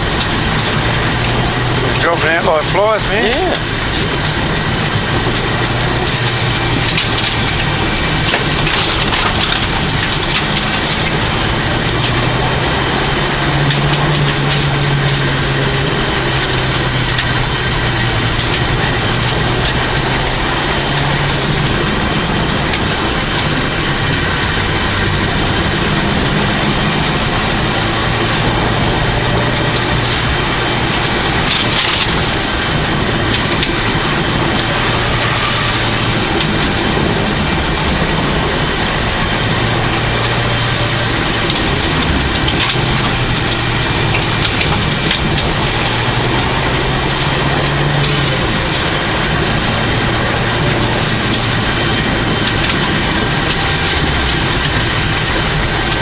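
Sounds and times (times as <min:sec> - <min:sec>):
car engine running: 0:00.0 - 0:56.0
road and tyre noise: 0:00.0 - 0:56.0.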